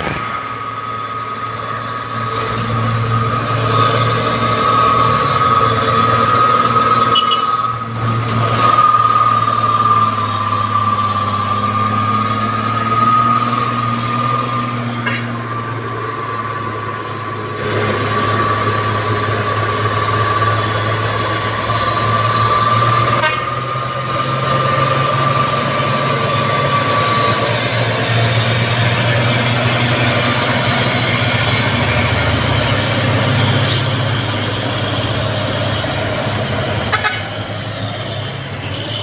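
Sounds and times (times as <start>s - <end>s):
high-pitched whine: 0.0s - 36.8s
diesel truck engine under load: 0.0s - 39.0s.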